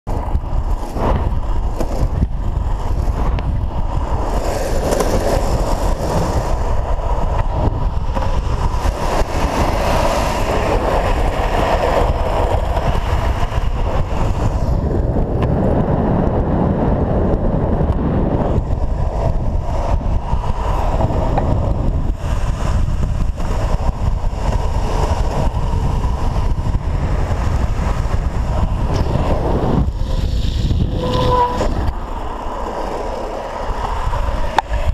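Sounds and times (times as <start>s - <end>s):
longboard wheels rolling on asphalt: 0.1s - 34.9s
wind rushing over microphone: 0.1s - 34.9s.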